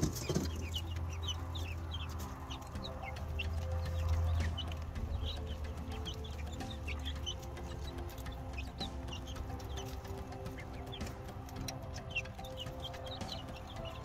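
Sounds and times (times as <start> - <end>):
chicks peeping and chirping: 0.0 - 14.0.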